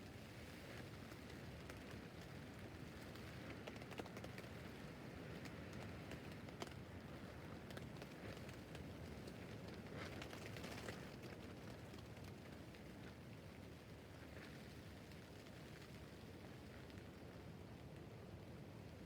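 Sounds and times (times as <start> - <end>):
rain on a tent roof: 0.0 - 19.0.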